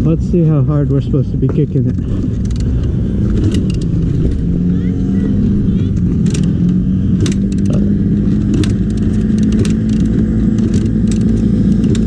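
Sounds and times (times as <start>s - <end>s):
two-stroke engine running: 0.0s - 12.0s.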